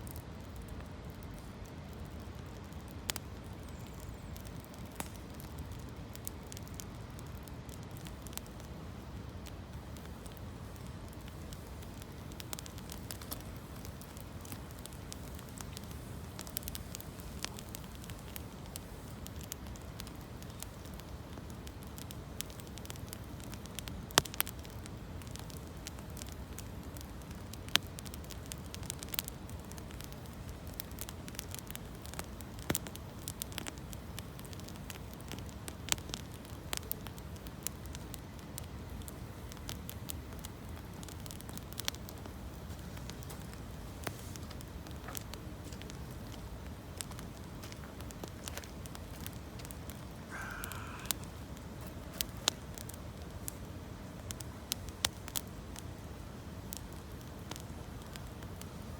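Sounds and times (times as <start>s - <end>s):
campfire crackling and popping: 0.0s - 58.9s.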